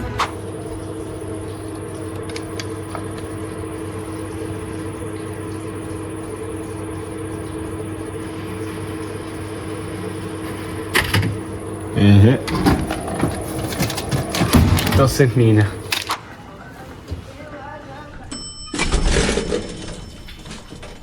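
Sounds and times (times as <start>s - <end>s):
steady mechanical hum: 0.0s - 18.4s.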